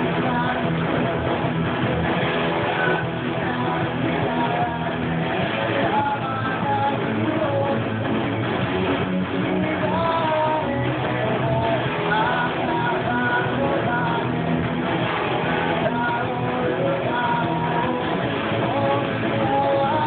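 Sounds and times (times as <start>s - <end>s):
electric guitar picking: 0.0s - 20.0s
rock song with singing: 0.0s - 20.0s.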